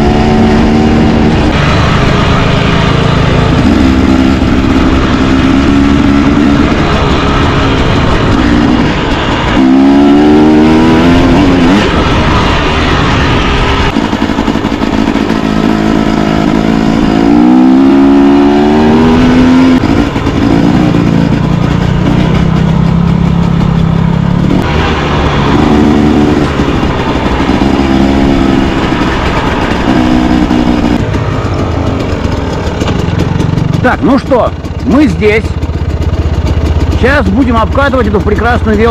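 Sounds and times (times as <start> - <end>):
vehicle engine revving: 0.0 - 38.9
wind and road noise: 0.0 - 38.9.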